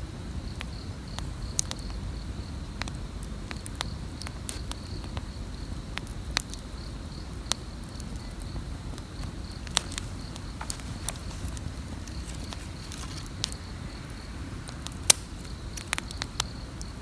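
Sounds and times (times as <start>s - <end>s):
campfire crackling and popping: 0.1s - 17.0s
insect chirping: 0.2s - 17.0s.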